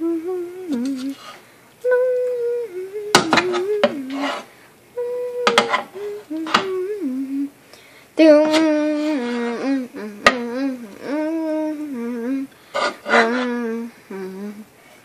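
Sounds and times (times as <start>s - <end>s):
person humming and singing: 0.0s - 7.6s, 8.2s - 14.8s.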